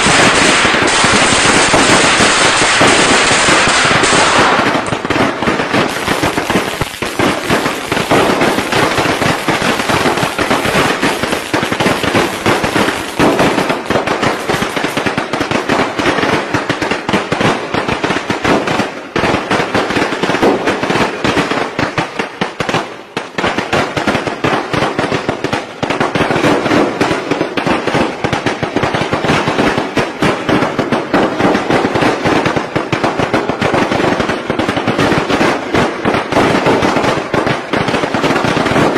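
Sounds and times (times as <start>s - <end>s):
firecrackers banging: 0.0s - 38.9s.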